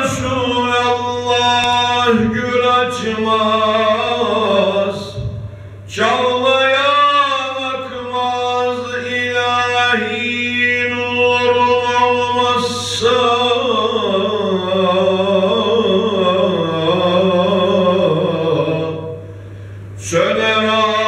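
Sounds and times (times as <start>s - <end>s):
man singing unaccompanied hymn: 0.0s - 5.3s, 5.9s - 19.2s, 20.0s - 21.0s
steady low hum: 0.0s - 21.0s.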